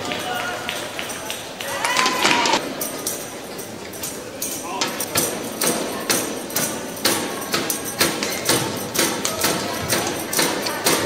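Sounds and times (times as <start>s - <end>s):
spectators beating a rhythm: 0.0s - 11.0s.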